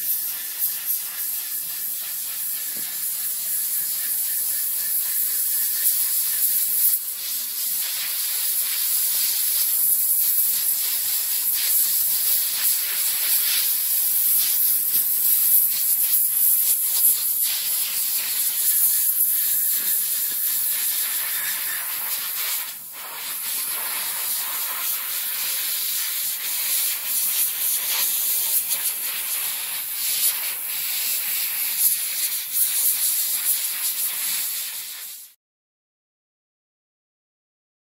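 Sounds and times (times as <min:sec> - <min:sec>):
airbrush air hiss: 0:00.0 - 0:35.4.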